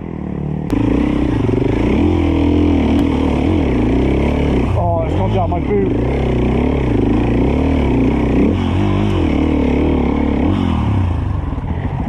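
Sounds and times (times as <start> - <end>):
dirt bike engine revving: 0.1 - 12.0.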